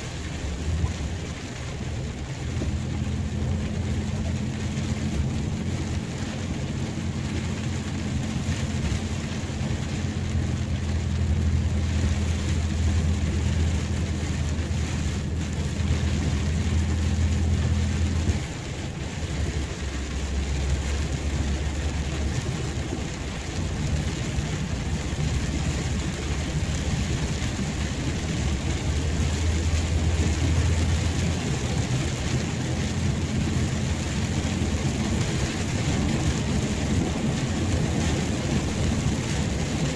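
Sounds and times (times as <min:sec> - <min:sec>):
low rumble: 0:00.0 - 0:39.9
steady rain: 0:00.0 - 0:39.9.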